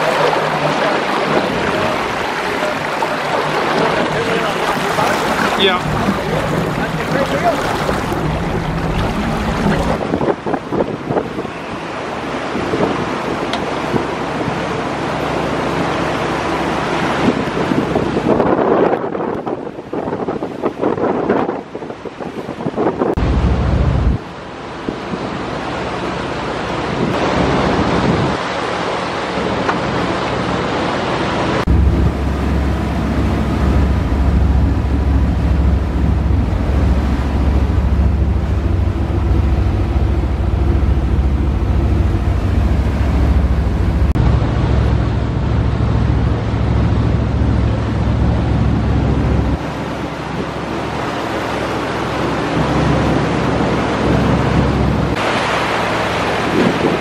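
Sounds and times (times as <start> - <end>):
wind buffeting microphone: 0.0 - 14.6, 17.0 - 24.3, 31.6 - 57.0
boat engine droning: 0.0 - 20.7, 22.4 - 57.0
sea water rushing past boat: 0.0 - 57.0.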